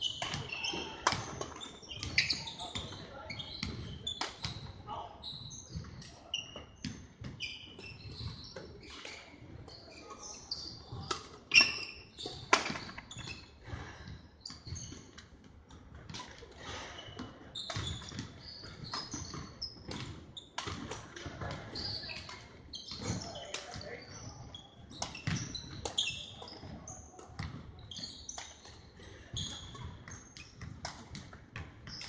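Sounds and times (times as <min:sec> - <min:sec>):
shoes squeaking on floor: 0:00.0 - 0:32.0.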